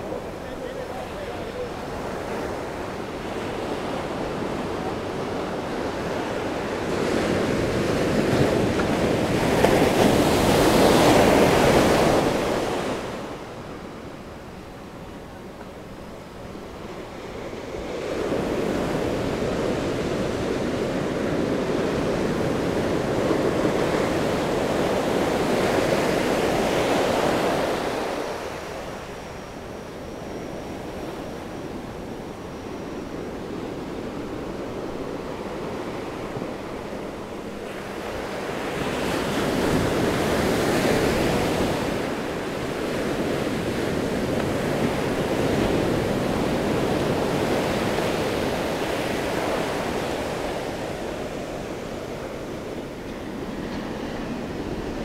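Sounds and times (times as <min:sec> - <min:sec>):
ocean surf breaking on beach: 0:00.0 - 0:55.0.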